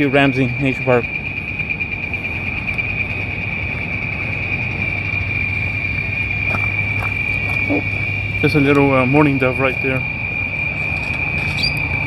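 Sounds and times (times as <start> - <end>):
cicadas buzzing: 0.0 - 12.0
low continuous rumble: 0.0 - 12.0.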